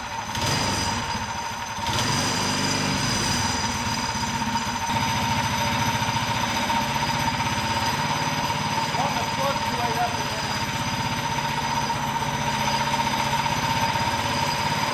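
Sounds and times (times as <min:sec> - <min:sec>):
small engine running: 0:00.0 - 0:14.9.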